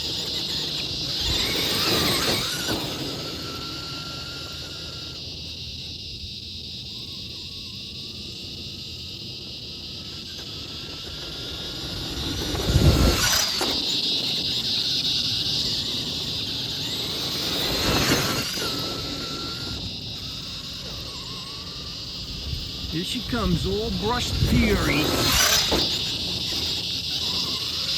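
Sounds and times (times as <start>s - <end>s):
electric motor whining: 0.0s - 5.6s, 9.8s - 27.9s.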